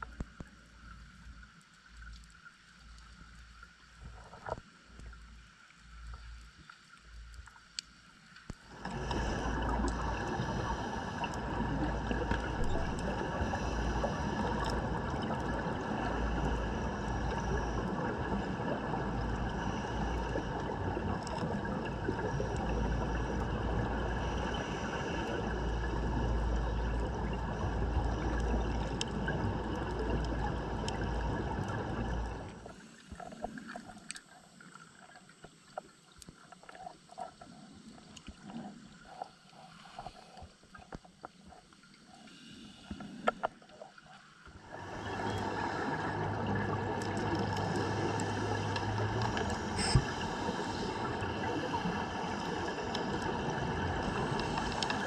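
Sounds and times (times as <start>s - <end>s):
muffled underwater drone: 0.0s - 55.0s.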